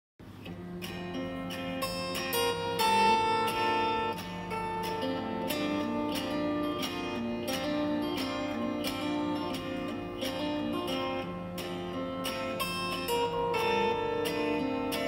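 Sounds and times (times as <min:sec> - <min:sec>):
plucked string tune: 0:00.2 - 0:15.0.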